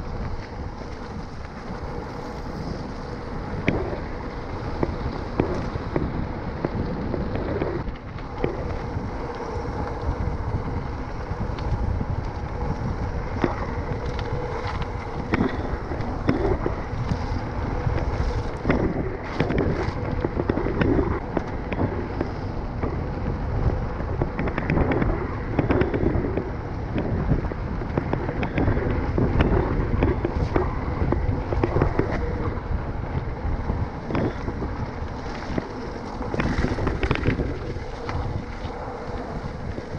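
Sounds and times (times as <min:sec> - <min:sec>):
tyre rumble: 0:00.0 - 0:39.9
wind buffeting microphone: 0:00.0 - 0:39.9.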